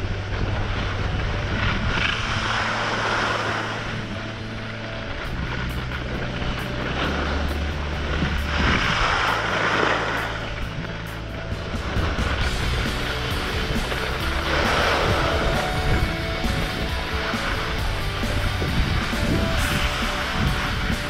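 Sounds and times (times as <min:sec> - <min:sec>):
wind rushing over microphone: 0:00.0 - 0:21.0
skis hissing and scraping on snow: 0:00.4 - 0:10.6, 0:11.8 - 0:21.0.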